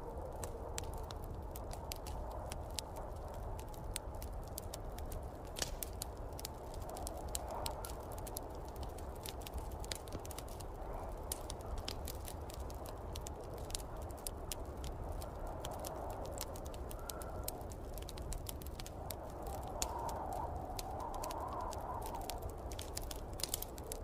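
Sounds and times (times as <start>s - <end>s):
snowstorm wind whooshing: 0.0s - 24.0s
wood fire crackling and popping: 0.0s - 24.0s.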